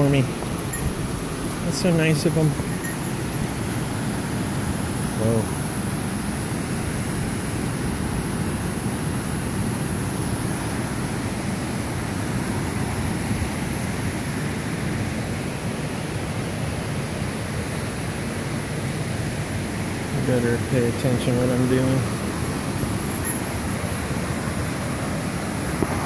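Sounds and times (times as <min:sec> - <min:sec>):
creek running high: 0:00.0 - 0:26.0
waterfall rushing: 0:00.0 - 0:26.0.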